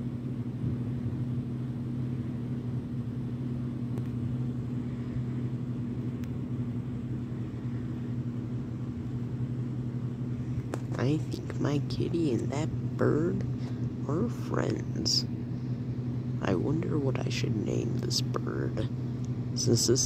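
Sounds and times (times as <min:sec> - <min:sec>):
deep rumble: 0:00.0 - 0:20.0
steady low hum: 0:00.0 - 0:20.0.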